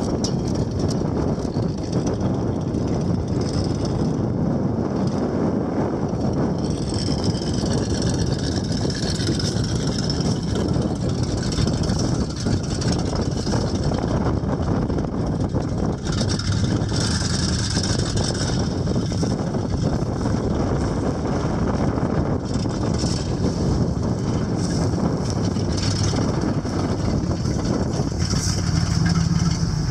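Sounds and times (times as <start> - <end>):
truck engine running: 0.0 - 29.9.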